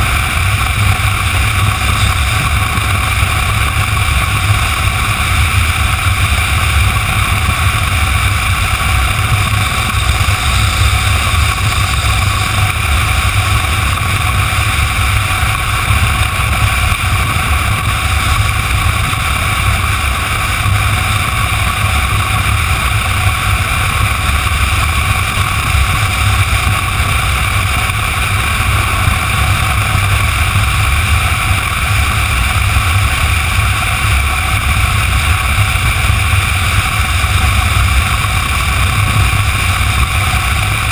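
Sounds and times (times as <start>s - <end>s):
motorcycle engine rumble: 0.0s - 40.9s
wind rush: 0.0s - 40.9s.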